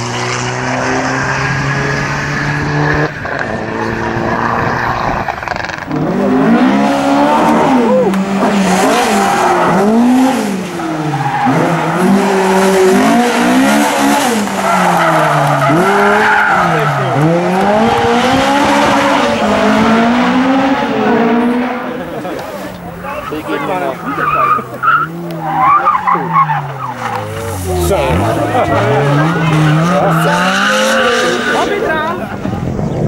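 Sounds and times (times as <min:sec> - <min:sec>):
car engine revving hard: 0:00.0 - 0:22.7, 0:23.3 - 0:32.2.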